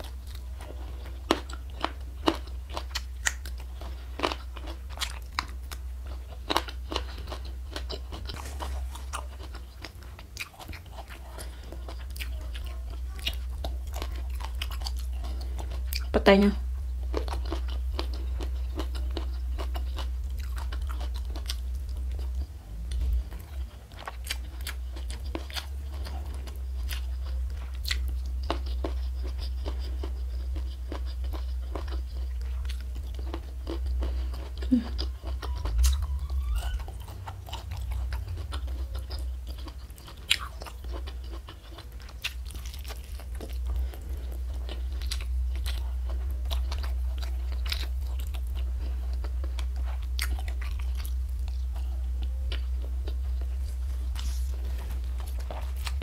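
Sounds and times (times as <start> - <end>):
chewing crunchy food: 0.0 - 56.0
steady low hum: 0.0 - 56.0.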